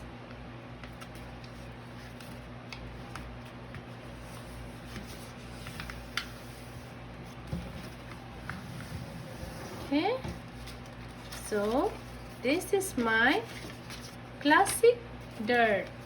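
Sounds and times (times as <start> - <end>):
steady low hum: 0.0 - 16.0
paper being folded and creased: 0.8 - 8.3, 10.4 - 16.0.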